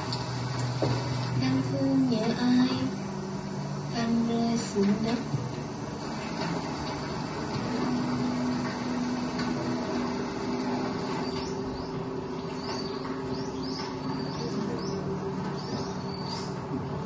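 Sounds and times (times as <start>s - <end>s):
low hum of held tones: 0.0s - 17.0s.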